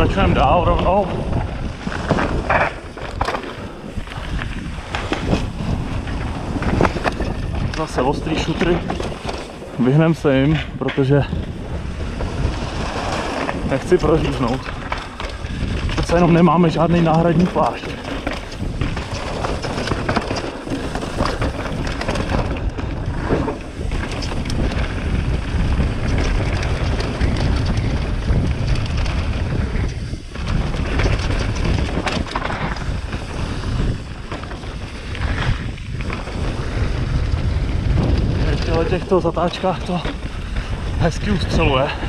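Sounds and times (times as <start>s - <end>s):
tyres rumbling on rocky trail: 0.0s - 42.0s
wind buffeting microphone: 0.0s - 42.0s.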